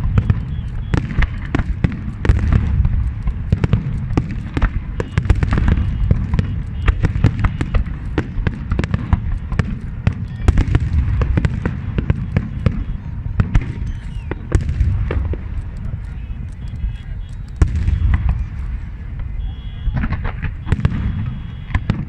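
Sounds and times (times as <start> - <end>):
deep booming rumble: 0.0 - 22.0
fireworks cracking and popping: 0.0 - 22.0.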